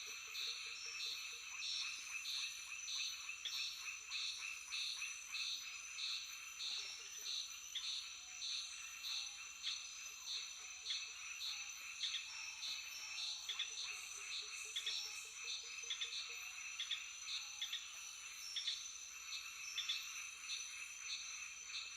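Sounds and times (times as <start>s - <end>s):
frogs calling: 0.0s - 21.9s.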